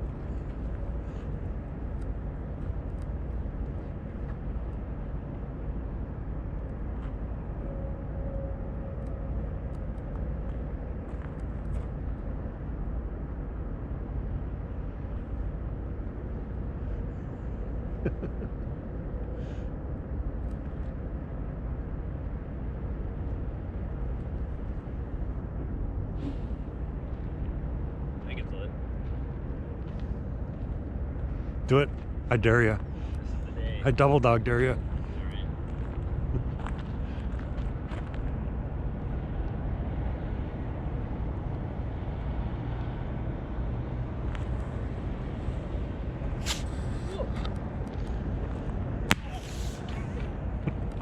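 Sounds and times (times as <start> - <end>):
low outdoor rumble: 0.0 - 51.0.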